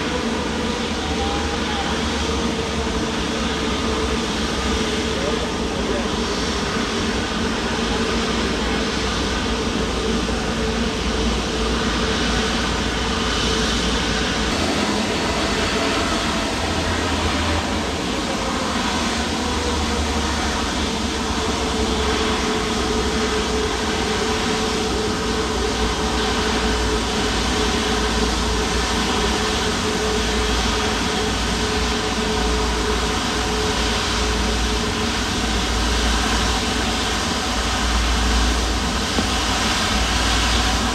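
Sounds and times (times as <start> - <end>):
jet engines rumbling and whining: 0.0 - 40.9.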